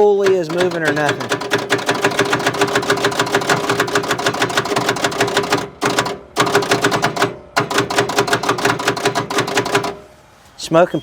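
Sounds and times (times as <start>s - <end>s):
starter motor rapid clicking: 0.0s - 10.0s.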